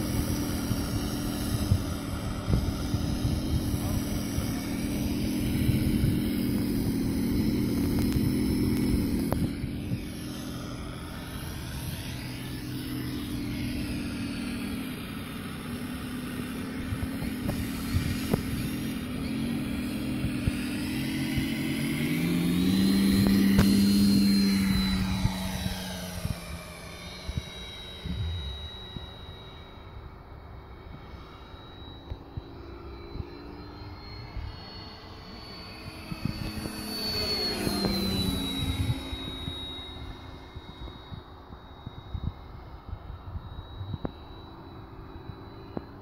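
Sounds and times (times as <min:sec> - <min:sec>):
high whine: 0:00.0 - 0:46.0
model plane propeller noise: 0:00.0 - 0:46.0
simulated aircraft piston engine: 0:00.0 - 0:46.0.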